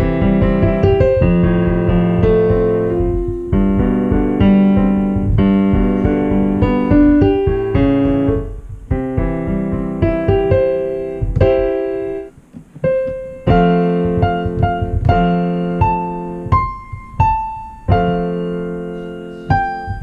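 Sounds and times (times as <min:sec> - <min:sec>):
digital piano playing: 0:00.0 - 0:20.0.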